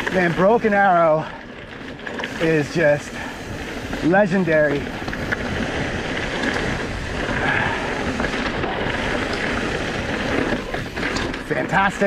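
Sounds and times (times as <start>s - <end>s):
bike tyres rolling on dirt: 0.0s - 12.0s
wind buffeting microphone: 0.0s - 12.0s.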